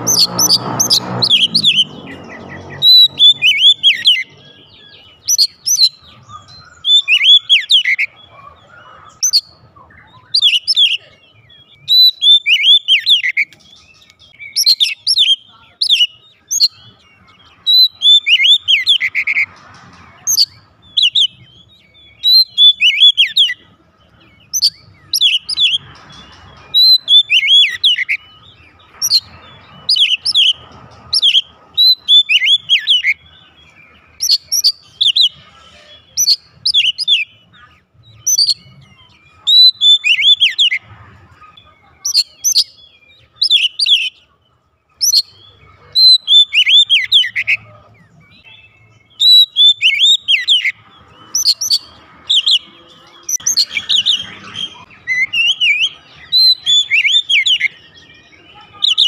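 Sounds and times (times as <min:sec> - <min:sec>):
bird singing whistled notes: 0:00.0 - 0:19.6, 0:20.2 - 0:40.8, 0:41.5 - 0:59.0.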